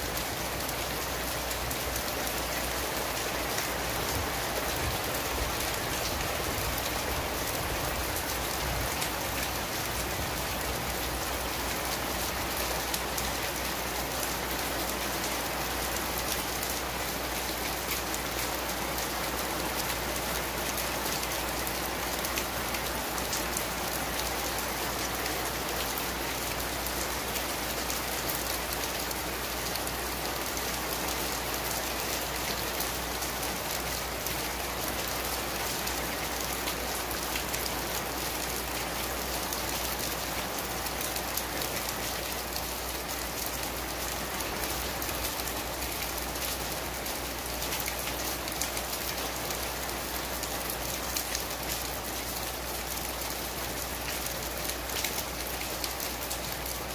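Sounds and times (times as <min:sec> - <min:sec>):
heavy rain downpour: 0:00.0 - 0:56.9.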